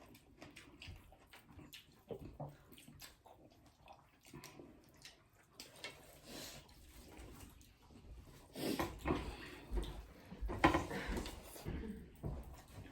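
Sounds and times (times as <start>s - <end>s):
wet chewing and lip smacks: 0.0s - 10.4s.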